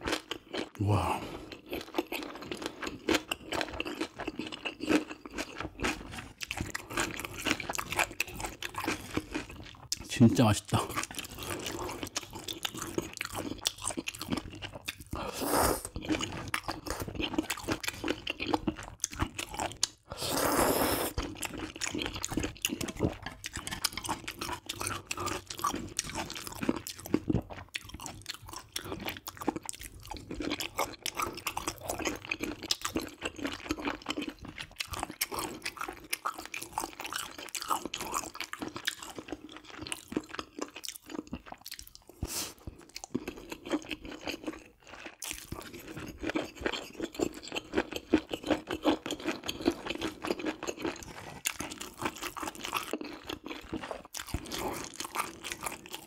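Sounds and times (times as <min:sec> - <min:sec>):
wet chewing mouth sounds: 0:00.0 - 0:56.0.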